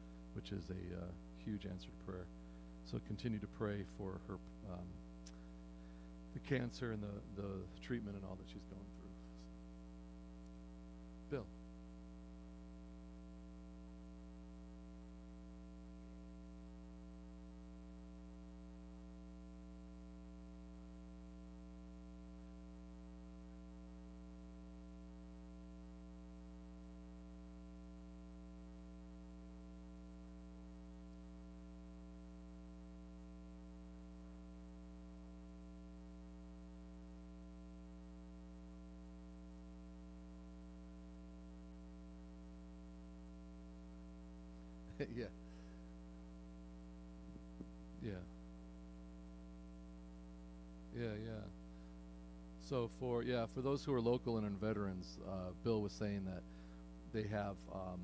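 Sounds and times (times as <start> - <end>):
faint mains hum: 0.0 - 58.0.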